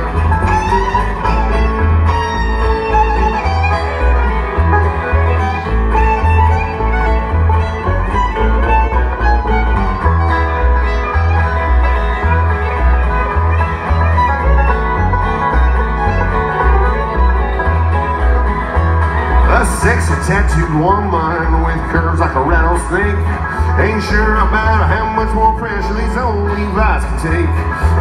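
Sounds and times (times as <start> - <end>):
banjo: 0.0 - 28.0
fiddle: 0.0 - 28.0
guitar: 0.0 - 28.0
upright bass walking line: 0.0 - 28.0.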